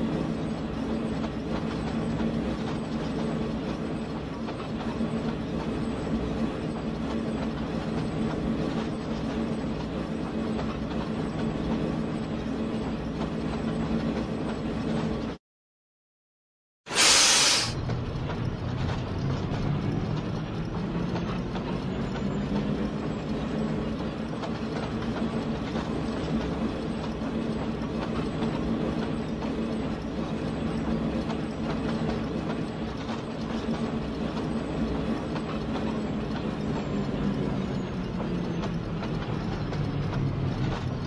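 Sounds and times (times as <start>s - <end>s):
diesel locomotive engine drone: 0.0s - 15.4s, 16.9s - 41.0s.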